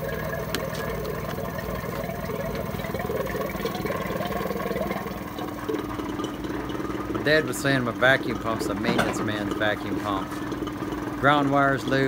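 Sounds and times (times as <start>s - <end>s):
ac compressor pumping: 0.0s - 12.0s.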